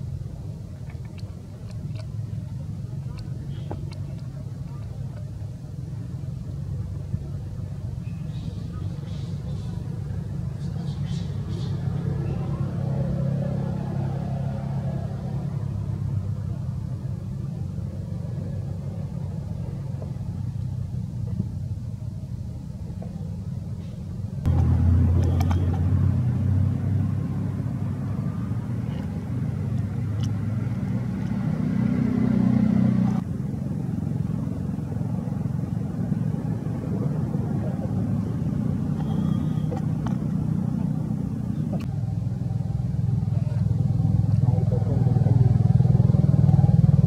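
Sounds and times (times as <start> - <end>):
low background rumble: 0.0 - 47.0.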